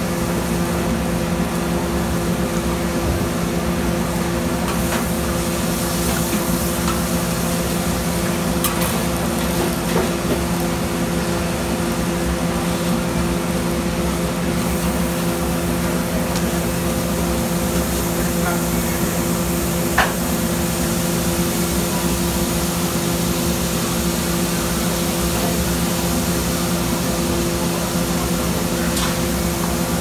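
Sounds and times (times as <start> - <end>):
kitchen hum: 0.0 - 30.0
meat and vegetables sizzling on griddle: 2.2 - 30.0.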